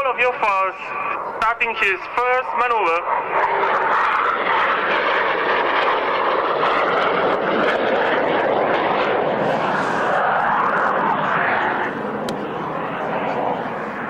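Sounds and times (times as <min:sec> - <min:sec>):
aircraft engine roar flying past: 0:00.0 - 0:14.0.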